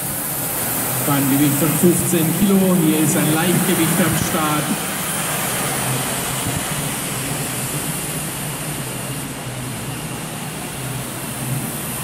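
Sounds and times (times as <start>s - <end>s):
model jet turbine hissing: 0.0s - 12.0s.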